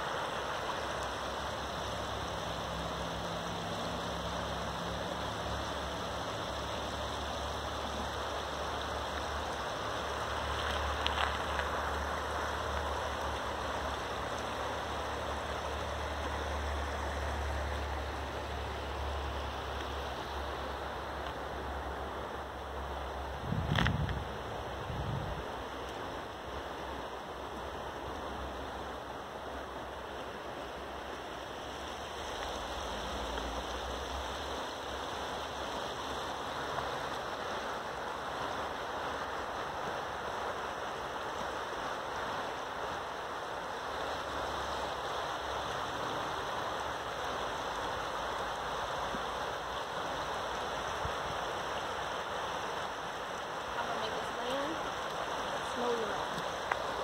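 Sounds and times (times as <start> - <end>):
fast-flowing river rushing: 0.0 - 57.0.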